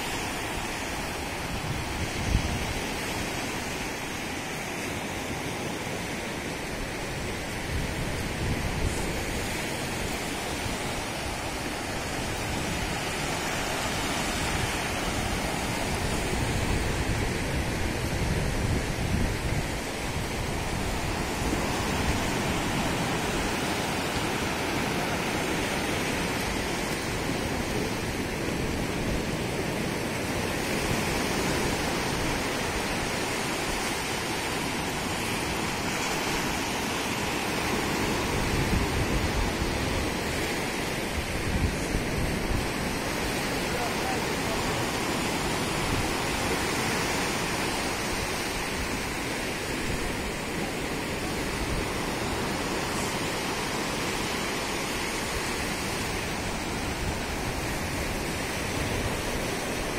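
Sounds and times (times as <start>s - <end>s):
surf washing up a beach: 0.0s - 59.9s
wind on microphone: 0.0s - 59.9s.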